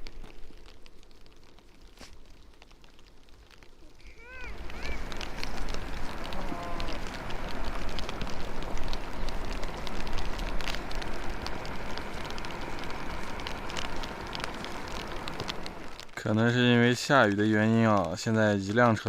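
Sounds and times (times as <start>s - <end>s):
rain falling: 0.0s - 19.0s
raindrop ticks: 0.0s - 19.0s.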